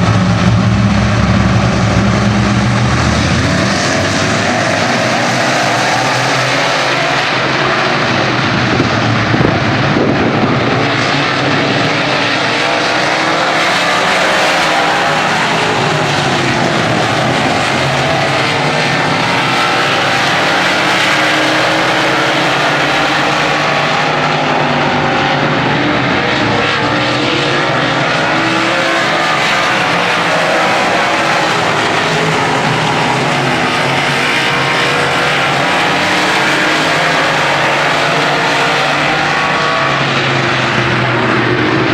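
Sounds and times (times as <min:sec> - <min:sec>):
racing engines revving: 0:00.0 - 0:41.9.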